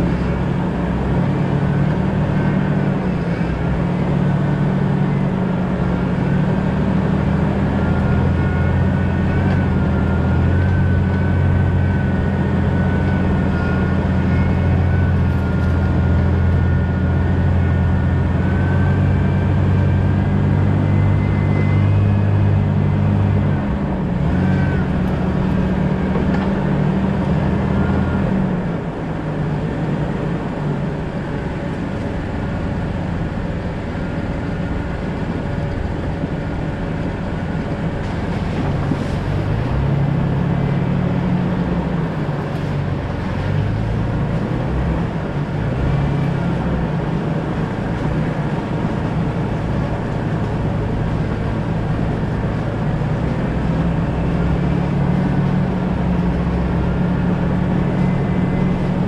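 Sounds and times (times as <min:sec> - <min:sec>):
car engine running: 0:00.0 - 0:59.0
road and tyre noise: 0:00.0 - 0:59.0.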